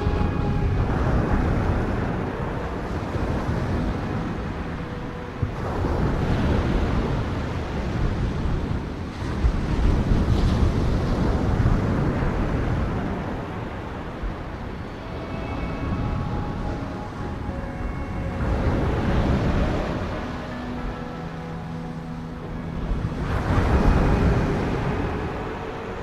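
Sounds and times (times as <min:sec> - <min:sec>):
waves breaking on shore: 0:00.0 - 0:26.0
wind rumbling on microphone: 0:00.0 - 0:26.0.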